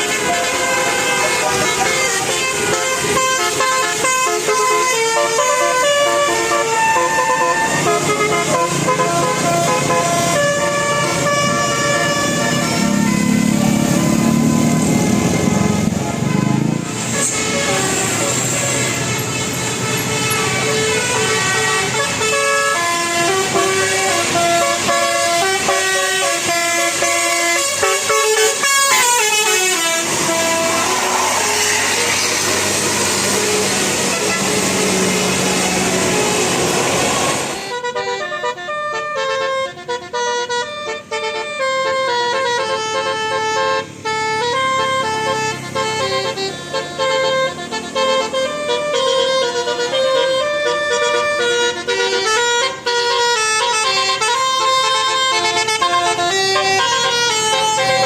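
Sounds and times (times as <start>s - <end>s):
bus air horn melody: 0.0s - 58.0s
bus engine and road noise: 0.0s - 58.0s.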